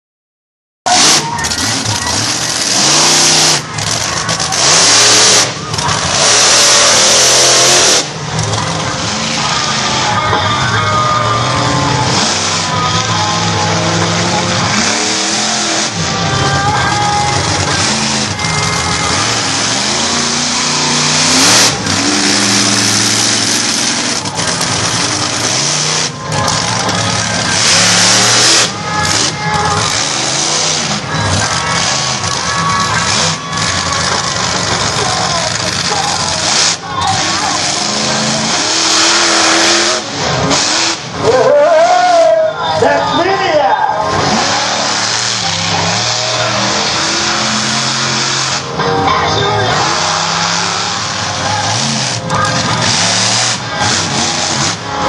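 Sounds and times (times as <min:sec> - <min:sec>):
monster truck engine revving: 0:00.9 - 0:55.0.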